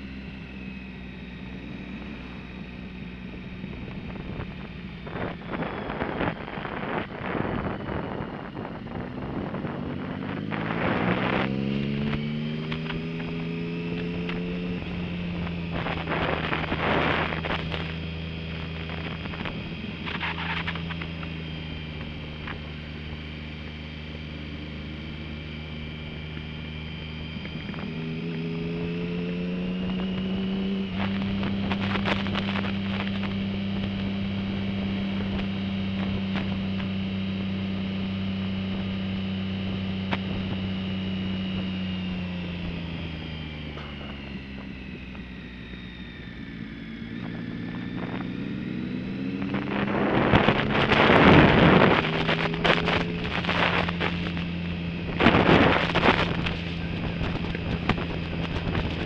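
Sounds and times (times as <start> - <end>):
motorcycle engine revving: 0.0 - 59.0
wind buffeting microphone: 2.7 - 22.8, 28.8 - 59.0.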